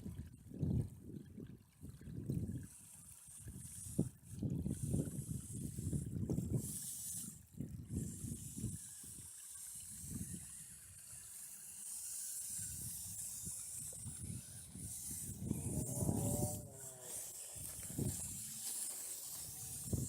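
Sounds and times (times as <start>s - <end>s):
wind buffeting microphone: 0.0s - 2.8s, 3.4s - 9.2s, 12.4s - 20.0s
shallow flowing water: 0.0s - 20.0s.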